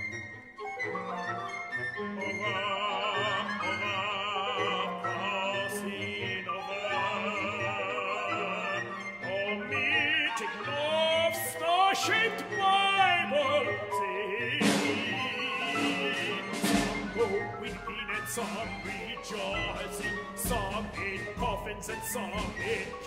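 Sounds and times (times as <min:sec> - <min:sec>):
chamber orchestra music: 0:00.0 - 0:23.0.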